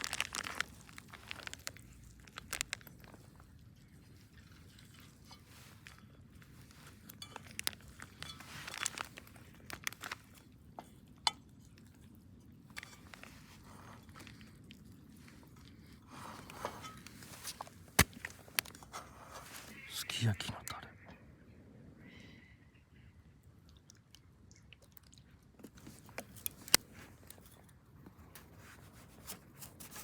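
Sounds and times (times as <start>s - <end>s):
crunching and rustling of food: 0.0s - 19.9s, 23.5s - 30.0s.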